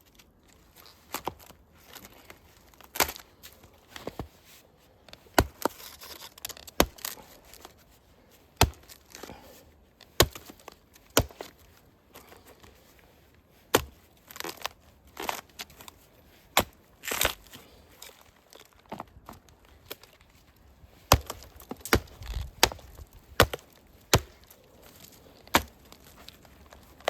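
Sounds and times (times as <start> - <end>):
crunching and rustling: 0.0 - 27.0
firewood cracking: 0.3 - 4.3, 4.9 - 7.8, 8.4 - 12.8, 13.5 - 27.0.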